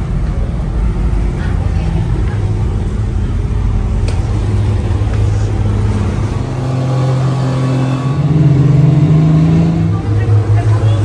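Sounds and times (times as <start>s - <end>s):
speedboat engines: 0.0s - 11.0s.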